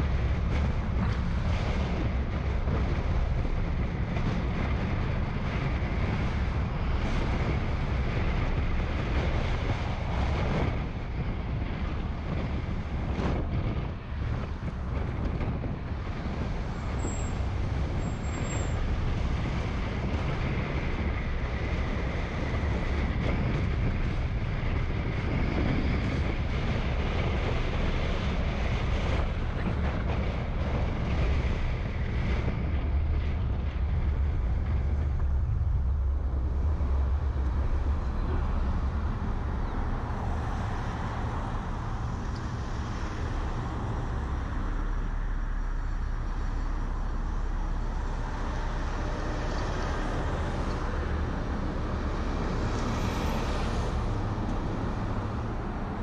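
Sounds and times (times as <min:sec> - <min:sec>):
car road and engine rumble: 0:00.0 - 0:56.0
wind noise on microphone: 0:00.0 - 0:56.0.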